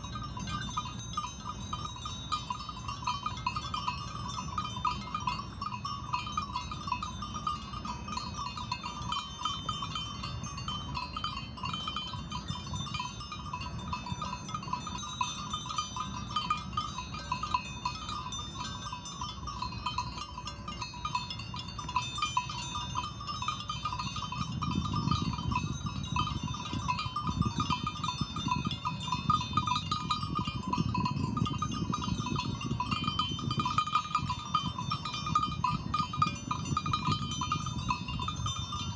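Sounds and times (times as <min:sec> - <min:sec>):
light tinkling of bells: 0:00.0 - 0:38.9.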